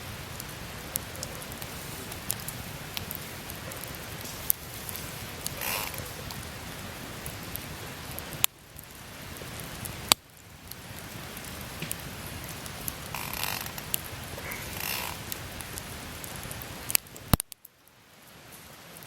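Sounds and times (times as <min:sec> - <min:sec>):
campfire flames hissing: 0:00.0 - 0:19.0
fire crackles and pops: 0:00.0 - 0:19.0.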